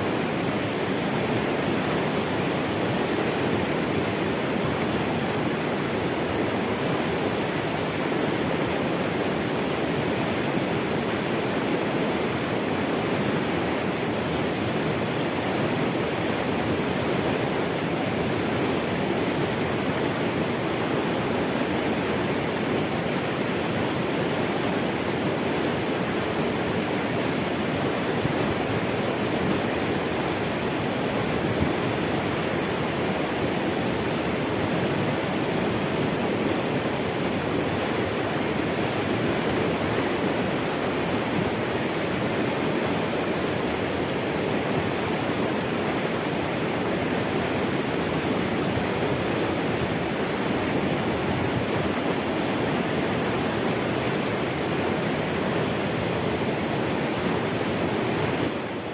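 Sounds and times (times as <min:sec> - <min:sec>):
water rushing: 0:00.0 - 0:58.9.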